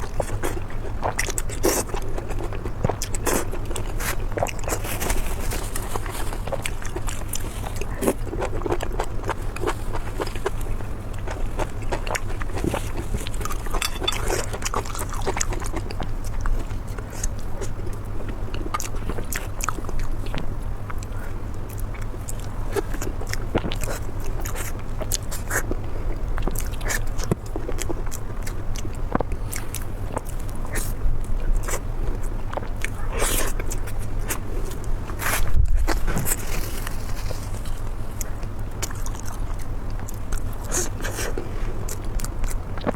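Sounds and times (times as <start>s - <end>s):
person chewing wetly: 0.0s - 42.9s
steady low hum: 0.0s - 42.9s.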